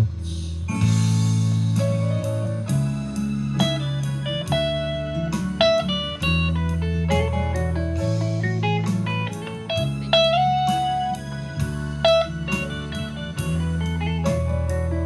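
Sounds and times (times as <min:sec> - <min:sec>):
electric guitar playing: 0:00.7 - 0:15.0.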